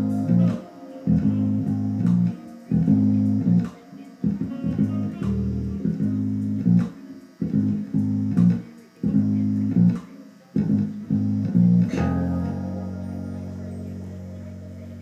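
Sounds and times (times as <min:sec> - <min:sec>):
plucked electric bass guitar: 0:00.0 - 0:15.0.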